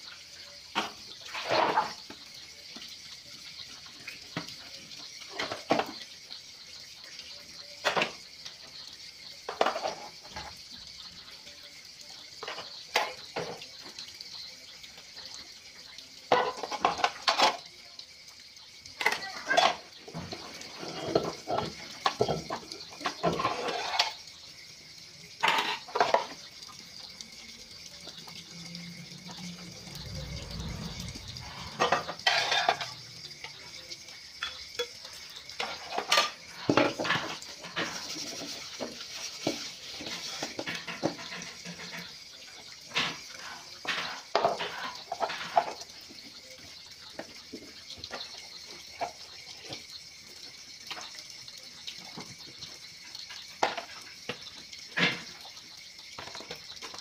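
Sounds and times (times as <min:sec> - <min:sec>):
pots clattering in sink: 0:00.0 - 0:57.0.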